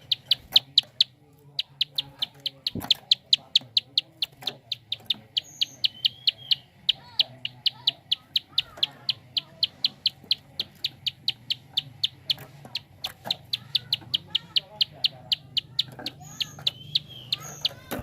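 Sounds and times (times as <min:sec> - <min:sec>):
bird rapid clicking call: 0:00.0 - 0:18.0
faint bird chirps: 0:00.0 - 0:18.0.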